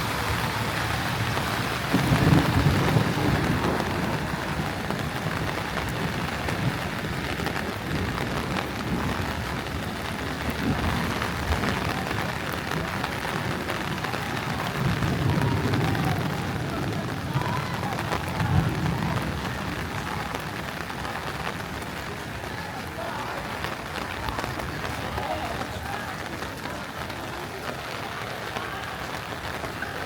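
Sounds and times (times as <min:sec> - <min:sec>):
heavy rain pattering: 0:00.0 - 0:30.0.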